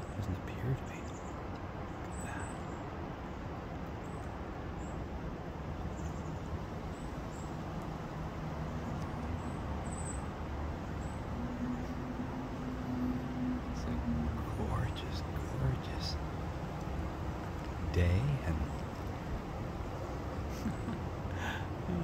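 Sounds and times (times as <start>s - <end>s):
faint engine hum: 0.0s - 22.0s
road traffic rumble: 0.0s - 22.0s.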